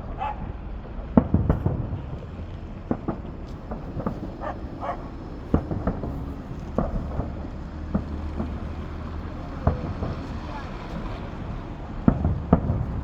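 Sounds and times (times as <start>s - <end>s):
firework bangs: 0.0s - 13.0s
steady low rumble: 0.0s - 13.0s.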